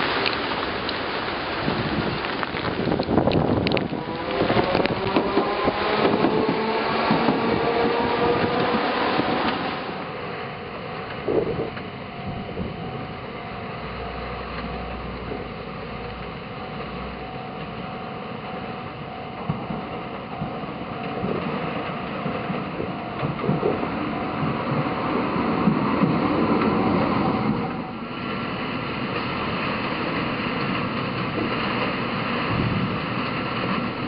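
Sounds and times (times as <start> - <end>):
rain and wind hissing: 0.0 - 34.0
tram running noise: 0.0 - 34.0.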